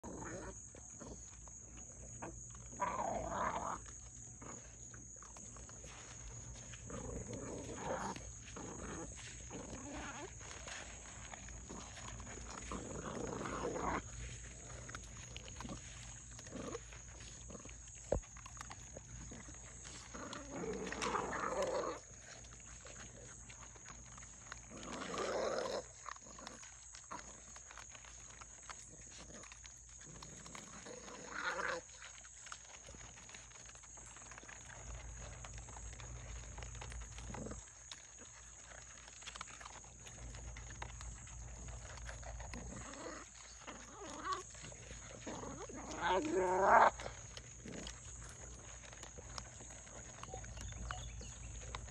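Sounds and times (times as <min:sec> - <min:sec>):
puppy growling: 0:00.0 - 0:51.9.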